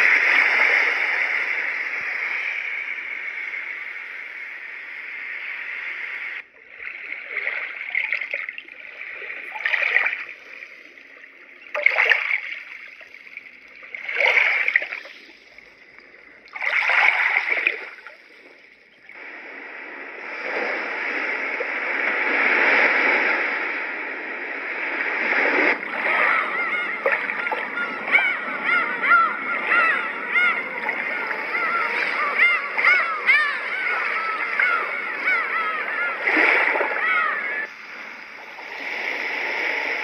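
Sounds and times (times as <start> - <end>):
rushing water wash: 0.0 - 3.2, 6.2 - 40.0
water splashing swells: 0.0 - 40.0.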